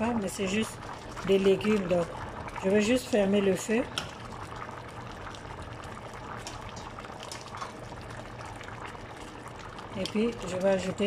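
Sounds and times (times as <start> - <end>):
stew bubbling in a pan: 0.0 - 11.0.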